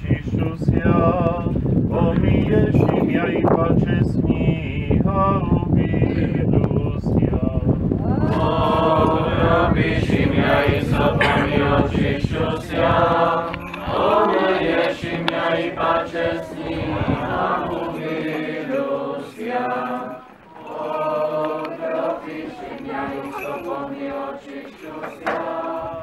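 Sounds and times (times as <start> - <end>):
voices singing chant in unison: 0.0 - 26.0.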